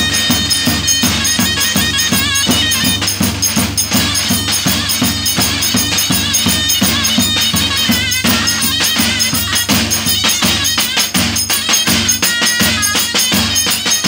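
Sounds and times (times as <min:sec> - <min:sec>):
drums beating steady rhythm: 0:00.0 - 0:14.0
reed pipe folk melody: 0:00.0 - 0:14.0.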